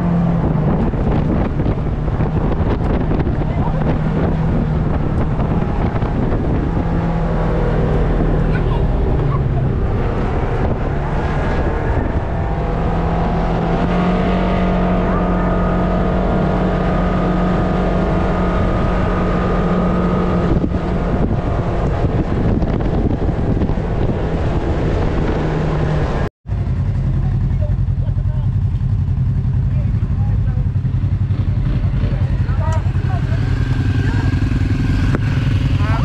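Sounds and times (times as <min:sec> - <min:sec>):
wind buffeting microphone: 0:00.0 - 0:28.0, 0:29.0 - 0:36.0
vehicle engine running: 0:00.0 - 0:36.0.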